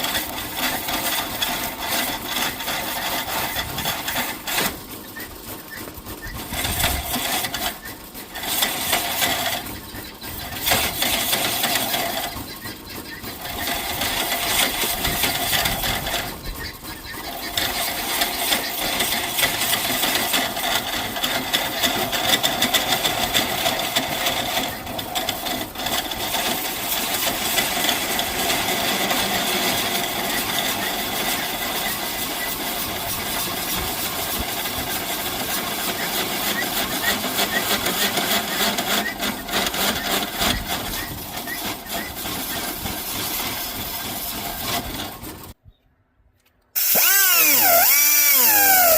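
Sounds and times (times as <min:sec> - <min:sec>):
power tool cutting wood: 0:00.0 - 0:05.3, 0:06.2 - 0:12.4, 0:13.3 - 0:16.4, 0:17.1 - 0:45.1, 0:46.8 - 0:48.9.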